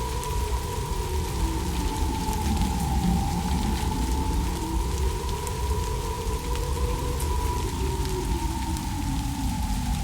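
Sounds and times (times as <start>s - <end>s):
steady rain: 0.0s - 10.0s.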